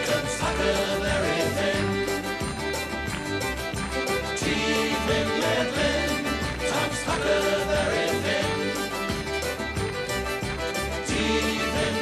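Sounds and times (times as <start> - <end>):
instrumental pop band music: 0.0 - 12.0.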